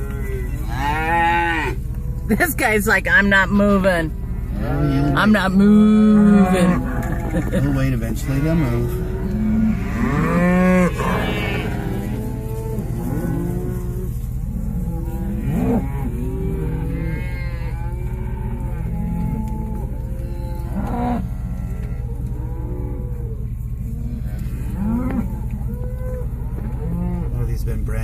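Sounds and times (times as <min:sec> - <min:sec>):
cattle mooing and bawling: 0:00.0 - 0:27.6
steady low hum: 0:00.0 - 0:28.0.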